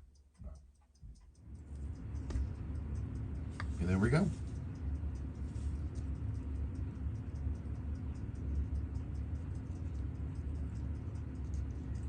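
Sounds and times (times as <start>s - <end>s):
low steady hum: 0.0s - 12.0s
rapid light clicking: 0.0s - 12.0s.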